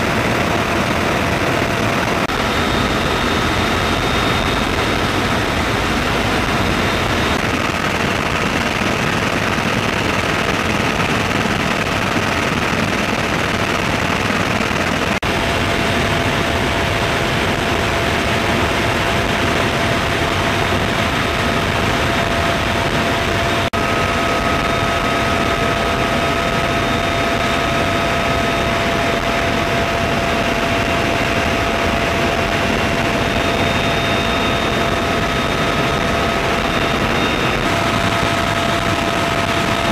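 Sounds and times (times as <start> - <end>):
faint engine whine: 0.0 - 14.2, 15.0 - 39.9
helicopter in flight: 0.0 - 39.9.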